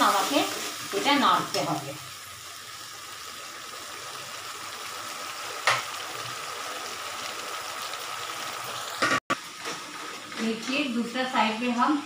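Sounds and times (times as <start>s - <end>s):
paste sizzling in oil: 0.0s - 10.2s.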